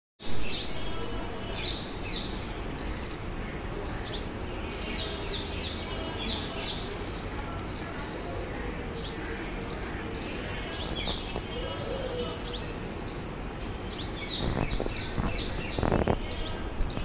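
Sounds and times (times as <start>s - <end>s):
bird chirping: 0.2s - 17.0s.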